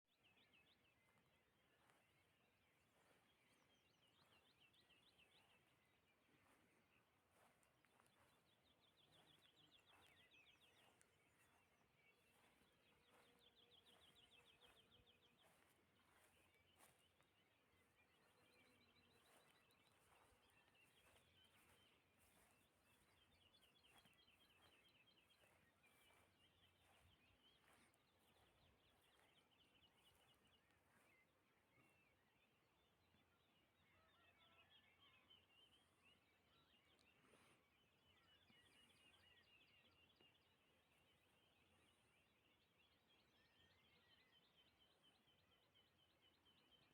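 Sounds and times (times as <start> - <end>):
quiet countryside ambience: 0.0 - 46.9.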